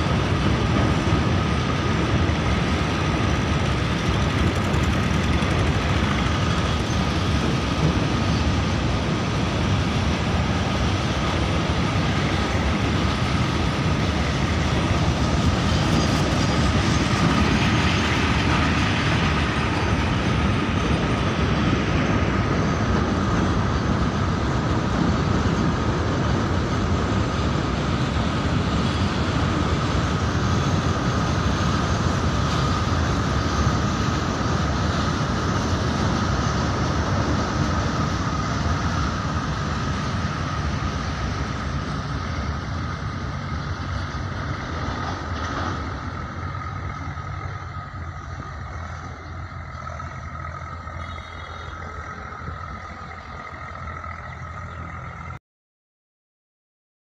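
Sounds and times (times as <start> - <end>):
freight train rumble and clatter: 0.0 - 55.4
high whine: 0.0 - 55.4.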